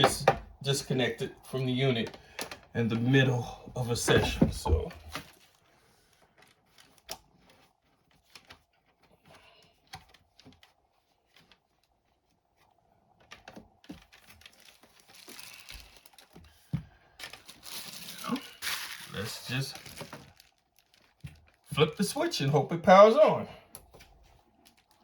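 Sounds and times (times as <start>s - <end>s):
rustling and crinkling: 1.7s - 22.6s, 23.7s - 25.0s.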